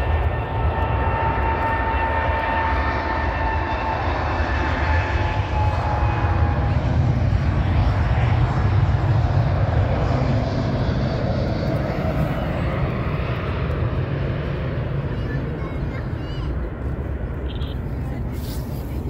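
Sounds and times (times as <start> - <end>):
jet engines at takeoff rumbling: 0.0 - 19.0.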